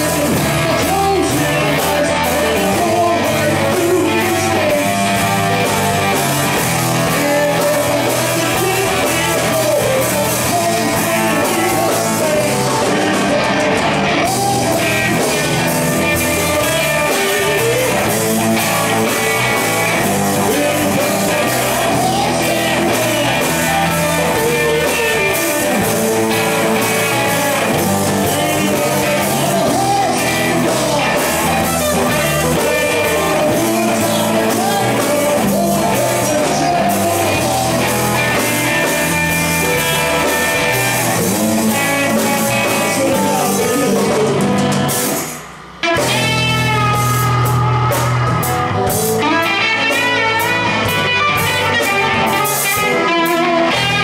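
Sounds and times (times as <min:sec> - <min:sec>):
man singing into a microphone: 0:00.0 - 0:44.6, 0:49.2 - 0:54.0
drums: 0:00.0 - 0:54.0
electric guitars: 0:00.0 - 0:54.0.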